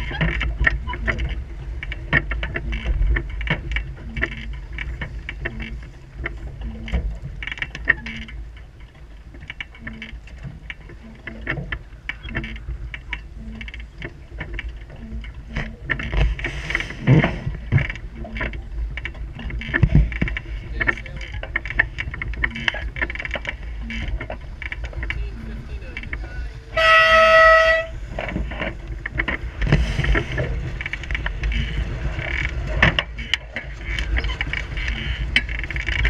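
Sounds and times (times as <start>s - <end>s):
water splashing against hull: 0.0s - 36.0s
wind buffeting microphone: 0.0s - 36.0s.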